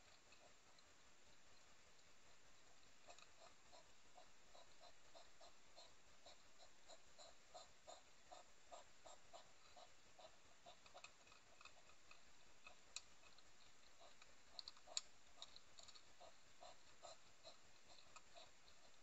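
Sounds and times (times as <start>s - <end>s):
hedgehogs huffing and chewing: 0.0s - 19.0s.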